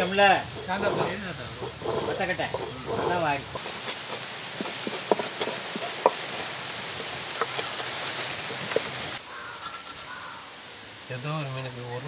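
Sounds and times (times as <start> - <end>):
fish scales scraping: 0.0 - 10.1
steady hiss: 0.0 - 12.0.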